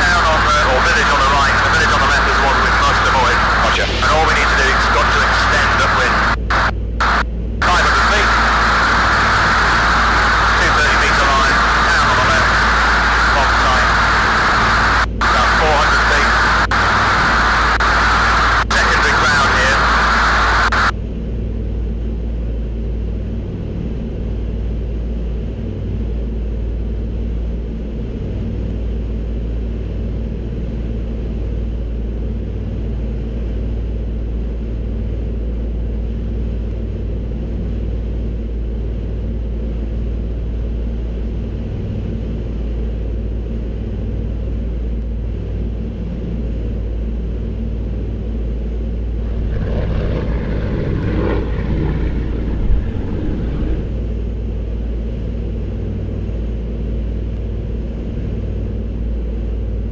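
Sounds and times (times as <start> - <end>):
propeller plane engines droning: 0.0 - 59.9.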